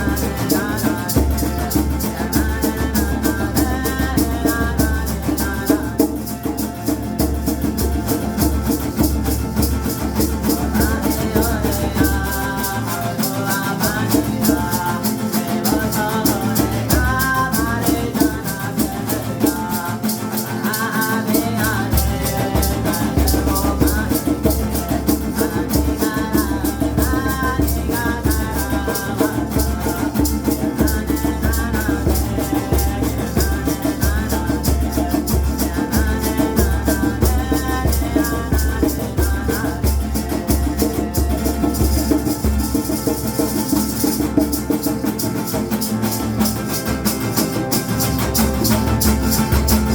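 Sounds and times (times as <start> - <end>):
ceremonial chant singing: 0.0 - 49.9
rattle shaken rhythmically: 0.0 - 49.9.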